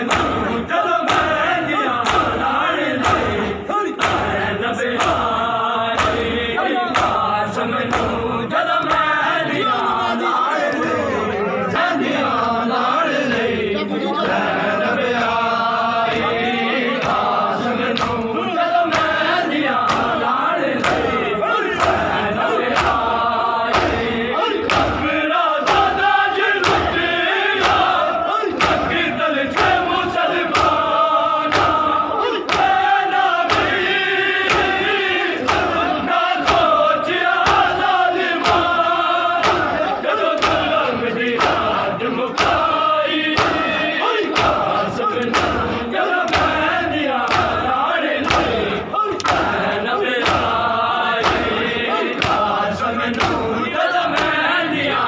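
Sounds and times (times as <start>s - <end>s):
hands slapping chests: 0.0s - 9.3s, 16.9s - 54.5s
crowd of men chanting: 0.0s - 55.0s.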